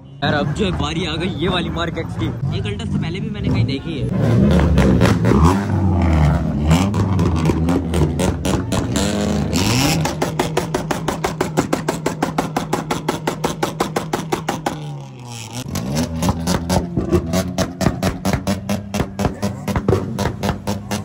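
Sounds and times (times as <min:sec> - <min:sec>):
car engine revving: 0:00.2 - 0:21.0.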